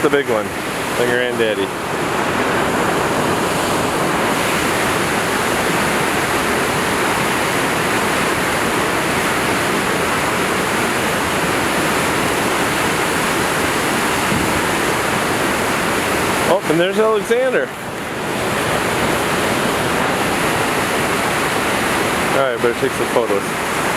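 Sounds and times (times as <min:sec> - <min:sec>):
waterfall roaring: 0:00.0 - 0:23.9.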